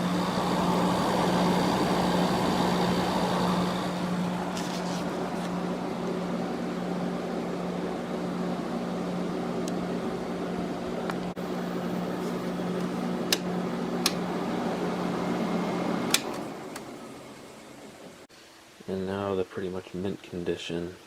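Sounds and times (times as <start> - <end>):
motor hum: 0.0 - 18.2
air conditioner fan noise: 0.0 - 18.3.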